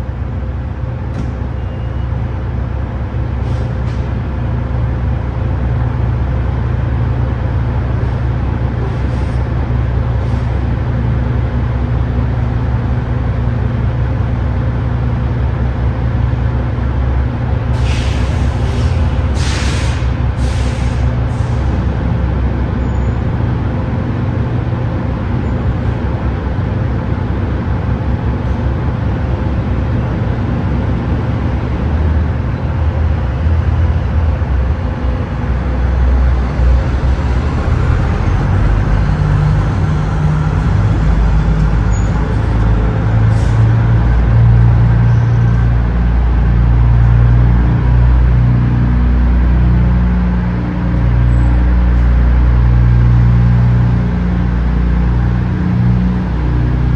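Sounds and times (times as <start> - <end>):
diesel truck engine rumbling: 0.0 - 56.9.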